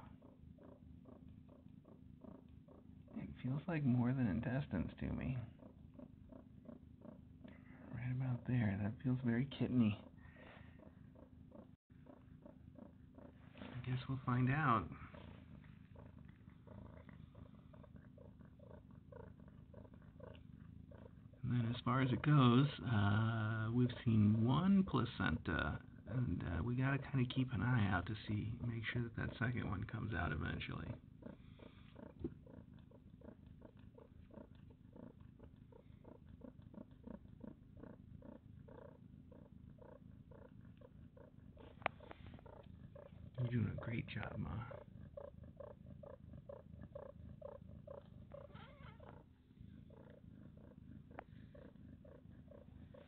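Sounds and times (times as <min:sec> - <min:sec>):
cat purring softly: 0:00.0 - 0:53.0
small faint repeating sounds: 0:00.0 - 0:53.0.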